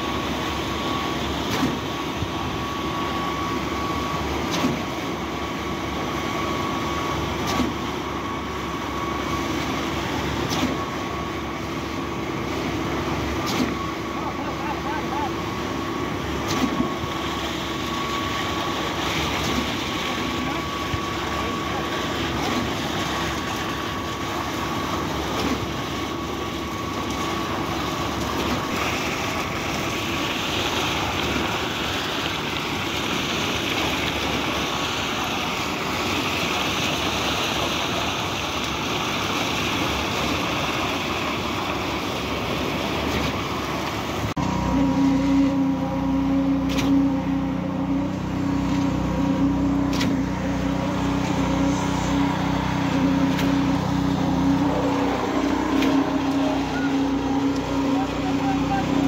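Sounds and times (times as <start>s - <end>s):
concrete pump mechanical drone: 0.0s - 59.0s
truck engine drone: 0.0s - 59.0s.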